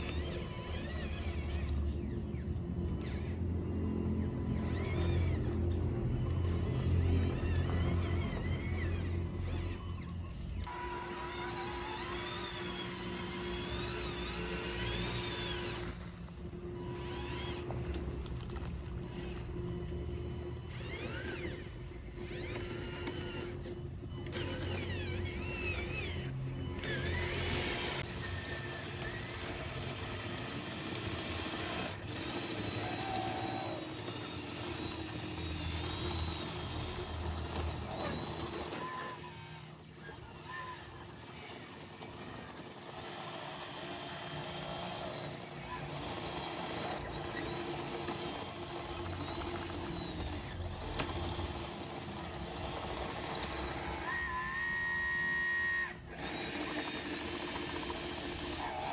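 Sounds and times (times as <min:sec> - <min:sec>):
whine of electric motors: 0:00.0 - 0:58.9.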